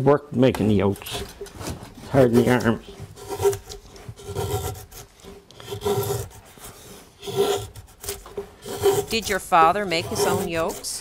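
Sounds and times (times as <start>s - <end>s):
drawknife scraping wood: 0.9s - 11.0s.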